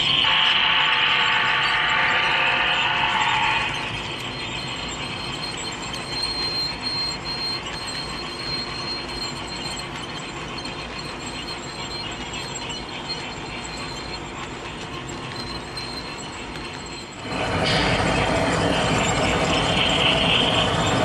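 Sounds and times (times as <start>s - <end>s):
high-pitched squeal: 0.0s - 21.0s
model train wheels rumbling: 0.2s - 21.0s.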